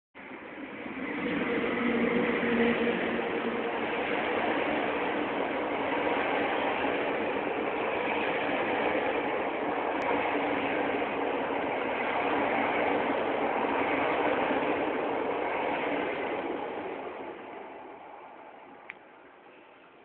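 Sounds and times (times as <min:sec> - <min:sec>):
train coaches rushing past: 0:00.2 - 0:20.0.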